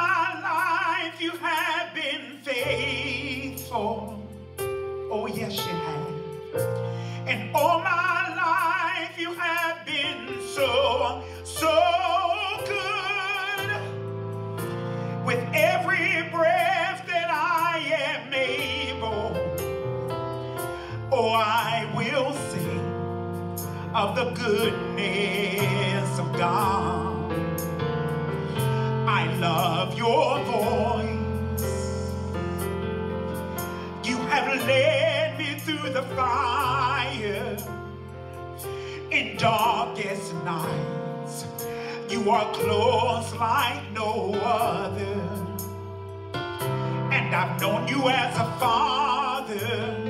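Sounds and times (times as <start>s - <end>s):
man singing gospel: 0.0s - 19.8s, 20.4s - 27.8s, 28.4s - 32.8s, 33.4s - 45.9s, 46.6s - 50.0s
sustained keyboard chords: 0.0s - 50.0s.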